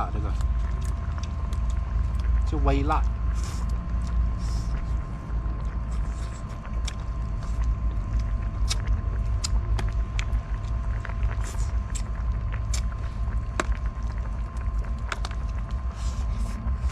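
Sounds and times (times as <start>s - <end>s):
fire crackling and popping: 0.0s - 16.9s.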